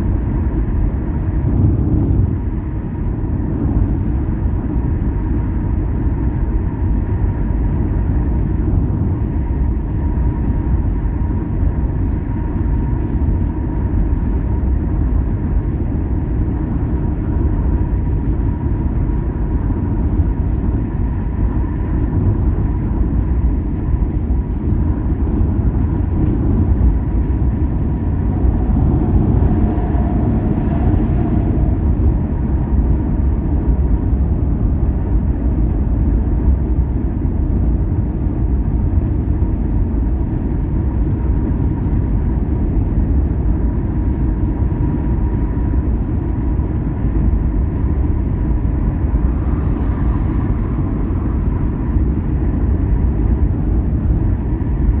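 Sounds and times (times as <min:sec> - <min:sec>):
car tyres and engine rumbling: 0:00.0 - 0:55.0.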